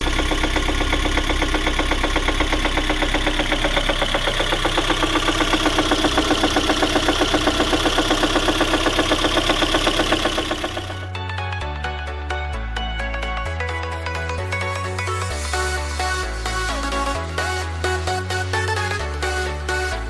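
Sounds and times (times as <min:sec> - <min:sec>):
car engine idling with rhythmic knock: 0:00.0 - 0:11.1, 0:14.0 - 0:20.0.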